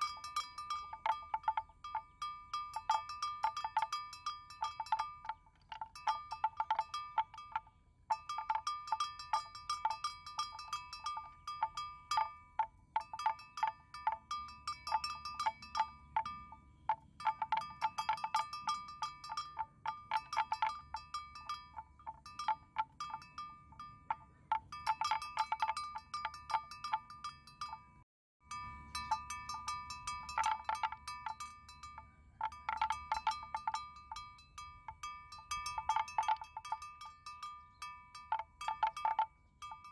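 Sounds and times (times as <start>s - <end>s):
metal bell clanking: 0.0s - 39.9s.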